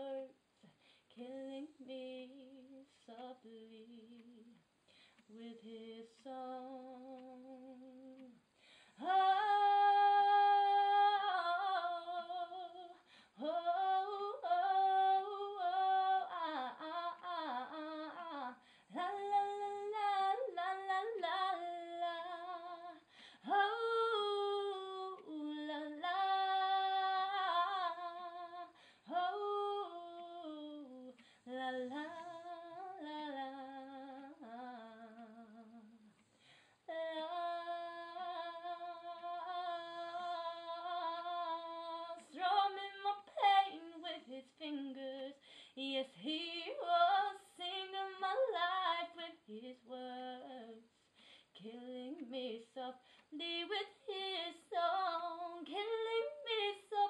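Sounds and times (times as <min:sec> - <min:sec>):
woman singing wordless phrases: 0:00.0 - 0:36.2, 0:36.8 - 0:50.9, 0:51.5 - 0:57.0.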